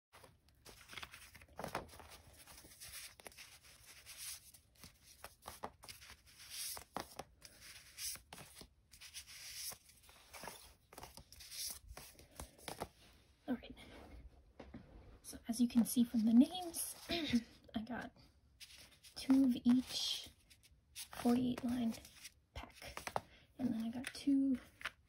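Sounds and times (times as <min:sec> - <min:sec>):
paper envelopes rustling: 0:00.2 - 0:13.0, 0:15.8 - 0:17.4, 0:18.6 - 0:25.0.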